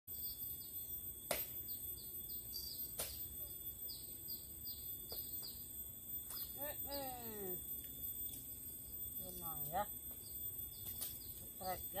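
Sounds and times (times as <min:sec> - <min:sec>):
bird chirping: 0:00.1 - 0:12.0
insect drone: 0:00.1 - 0:12.0.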